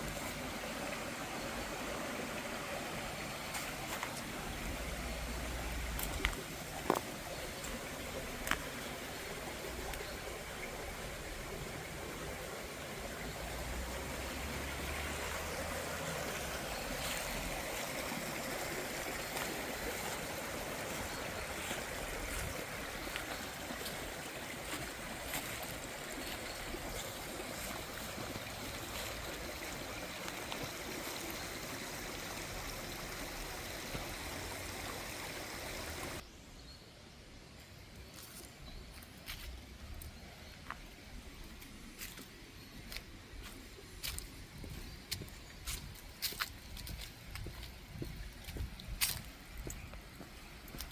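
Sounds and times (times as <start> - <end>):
stream water running: 0.0 - 36.2, 38.1 - 50.9.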